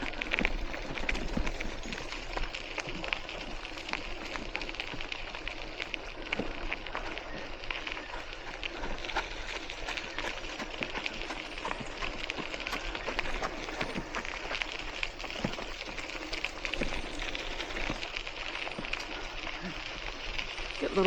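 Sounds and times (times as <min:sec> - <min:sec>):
bike tyres crackling on path: 0:00.0 - 0:21.0.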